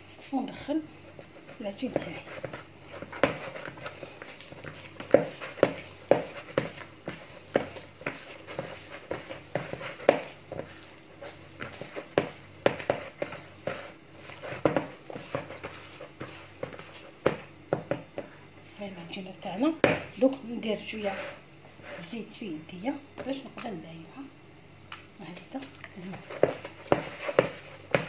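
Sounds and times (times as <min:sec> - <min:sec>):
hands kneading sticky dough: 0:00.0 - 0:22.4, 0:25.4 - 0:28.0.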